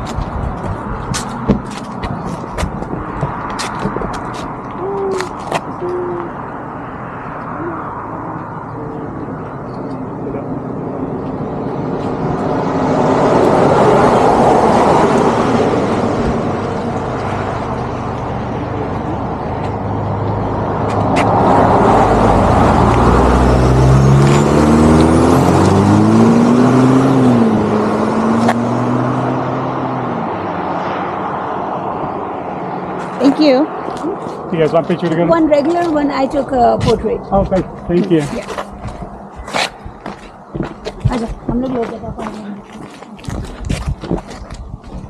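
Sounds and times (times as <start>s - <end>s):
vehicles passing by: 0.0s - 45.0s.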